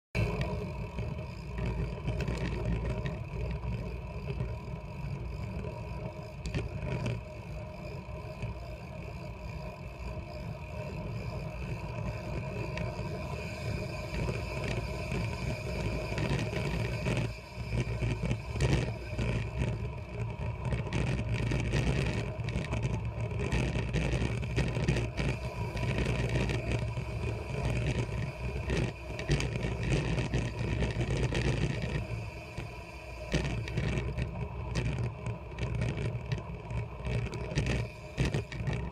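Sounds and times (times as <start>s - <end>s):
bike knocking and rattling: 0.2s - 38.9s
tyres rumbling on asphalt: 0.2s - 38.9s.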